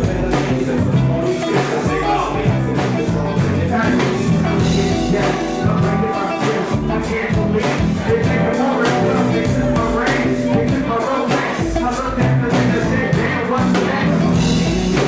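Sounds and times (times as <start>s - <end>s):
live band playing a steady beat: 0.0s - 15.0s
sung vocals: 0.0s - 15.0s.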